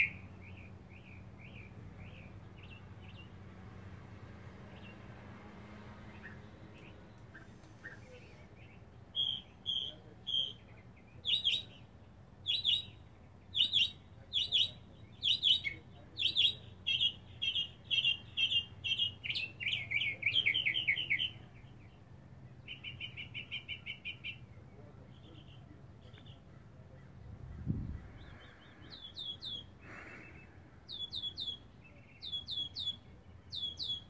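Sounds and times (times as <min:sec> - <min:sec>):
mockingbird singing: 0:00.0 - 0:03.4, 0:06.0 - 0:34.0.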